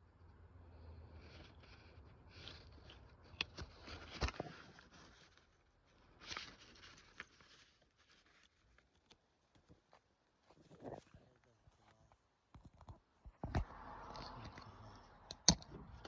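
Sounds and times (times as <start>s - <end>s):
rustling and scraping: 0.8s - 16.0s.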